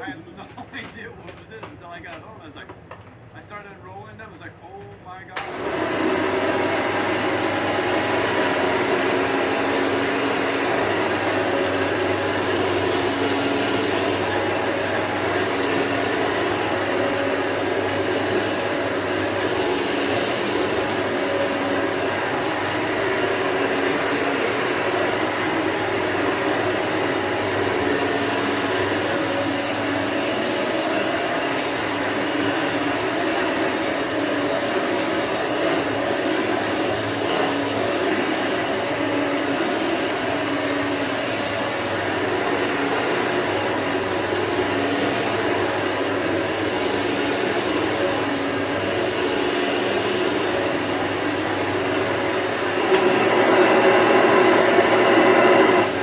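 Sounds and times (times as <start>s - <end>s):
vacuum cleaner running: 0.0s - 3.1s, 4.8s - 56.0s.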